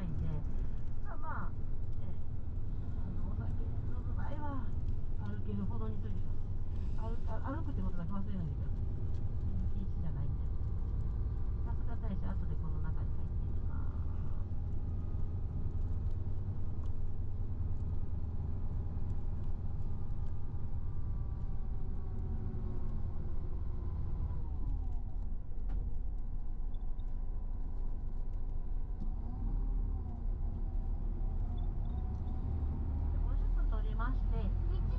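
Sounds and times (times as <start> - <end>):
bus engine drone: 0.0 - 34.9.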